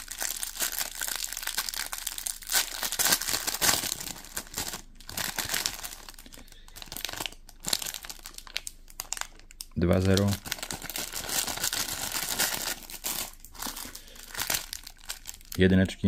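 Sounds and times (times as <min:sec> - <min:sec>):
packaging crackling: 0:00.0 - 0:15.7.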